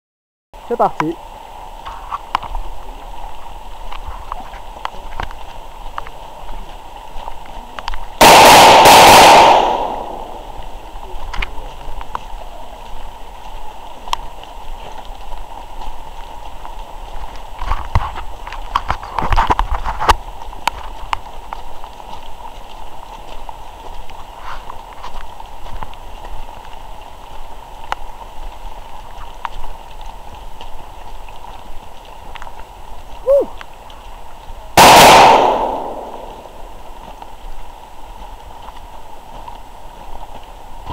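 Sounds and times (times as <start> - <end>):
footsteps on forest path: 0.6 - 40.9
steady hiss: 0.6 - 40.9.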